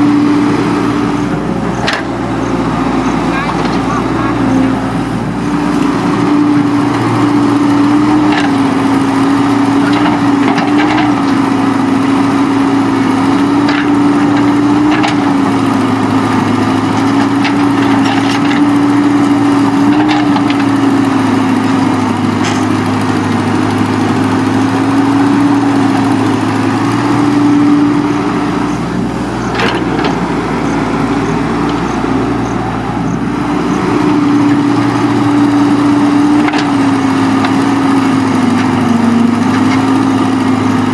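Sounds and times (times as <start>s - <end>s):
earthmoving machine engine running: 0.0s - 40.9s.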